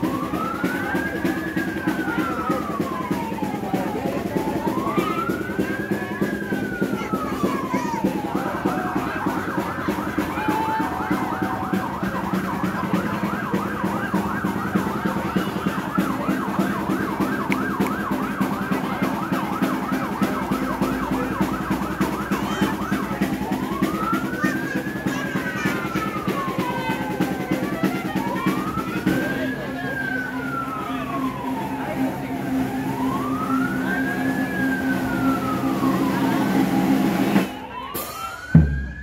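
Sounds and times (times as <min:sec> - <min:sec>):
emergency vehicle siren: 0:00.0 - 0:39.0.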